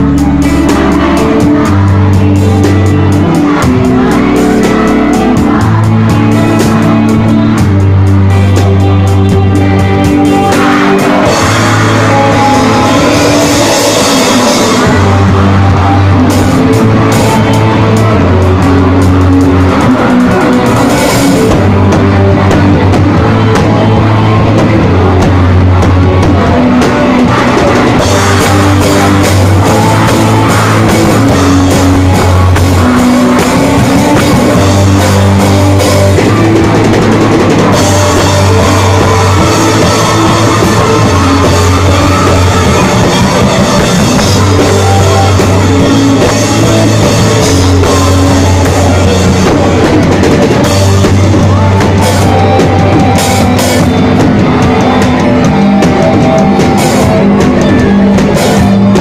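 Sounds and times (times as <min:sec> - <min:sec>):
drums pounding: 0:00.0 - 0:59.0
electric guitar: 0:00.0 - 0:59.0
low bass notes: 0:00.0 - 0:59.0.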